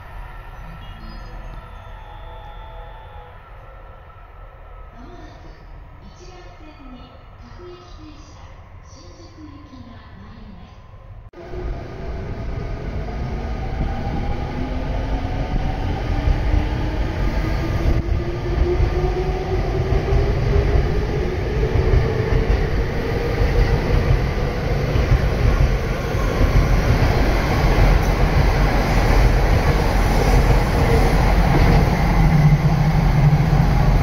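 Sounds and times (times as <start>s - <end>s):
approaching high-speed train: 0.0s - 34.0s.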